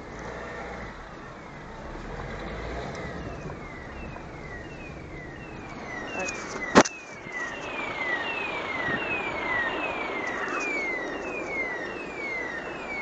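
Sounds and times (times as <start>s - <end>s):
electronic siren falling tones: 0.0s - 13.0s
road and engine noise: 0.0s - 13.0s.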